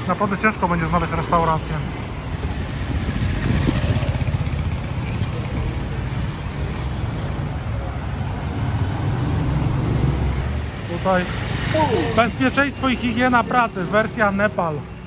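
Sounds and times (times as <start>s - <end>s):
cars and motorcycles driving past: 0.0s - 15.0s.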